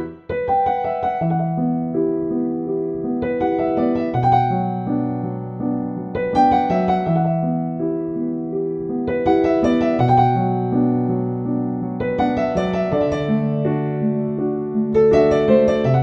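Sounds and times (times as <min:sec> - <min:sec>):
calm slow piano music: 0:00.0 - 0:16.0.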